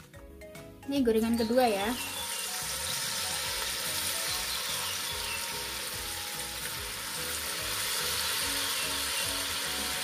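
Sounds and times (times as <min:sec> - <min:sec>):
batter frying in oil: 0:01.3 - 0:10.0.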